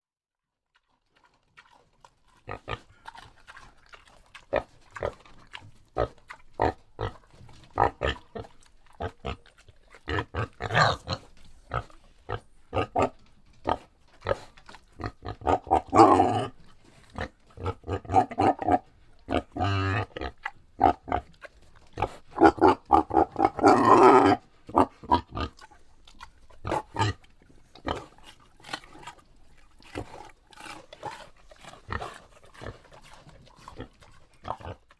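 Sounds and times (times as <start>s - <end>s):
boar chewing crunchily: 0.7s - 34.9s
boar grunting: 2.4s - 34.9s.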